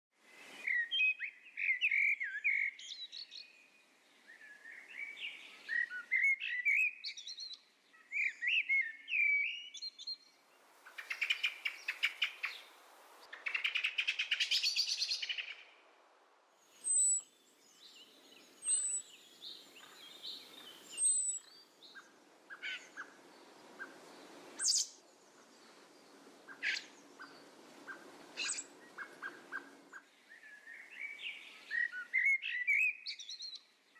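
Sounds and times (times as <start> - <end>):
small birds chirping and singing: 0.3 - 15.7, 16.6 - 33.9.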